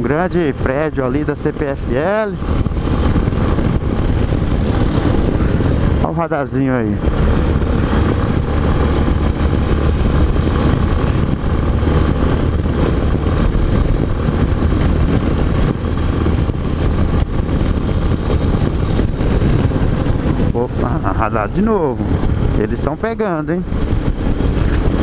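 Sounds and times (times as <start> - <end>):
motorcycle engine running: 0.0 - 25.0
road noise: 0.0 - 25.0
wind rush: 0.0 - 25.0.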